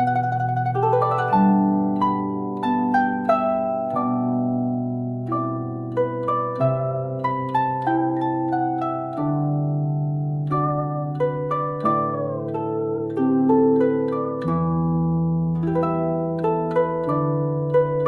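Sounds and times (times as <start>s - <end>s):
plucked zither melody: 0.0s - 18.0s.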